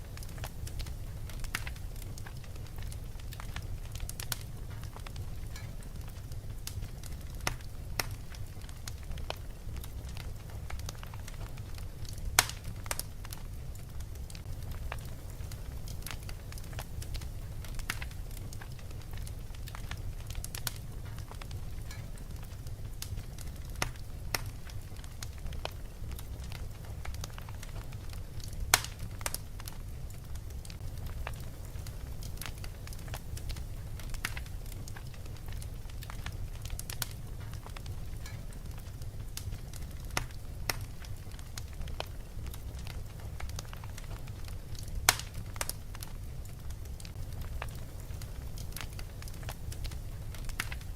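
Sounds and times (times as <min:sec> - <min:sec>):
fireplace crackling: 0:00.0 - 0:50.9
low rumble of fire: 0:00.0 - 0:50.9.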